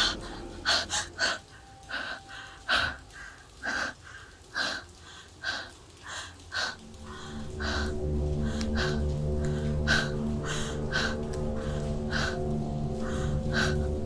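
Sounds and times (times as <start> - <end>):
person breathing heavily: 0.0 - 14.0.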